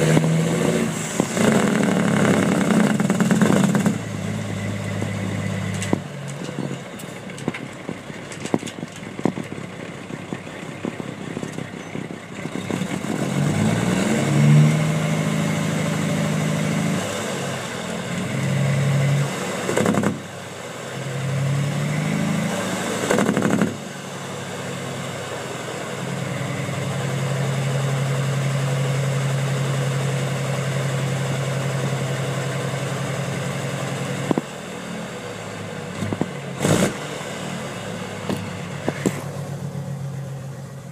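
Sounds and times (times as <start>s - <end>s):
loud diesel truck engine: 0.0s - 40.9s.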